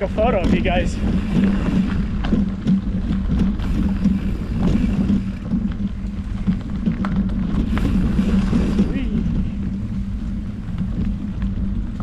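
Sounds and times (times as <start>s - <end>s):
bike clicks and rattles: 0.0s - 12.0s
bike tyres on dirt trail: 0.0s - 12.0s
wind rumbling on microphone: 0.0s - 12.0s.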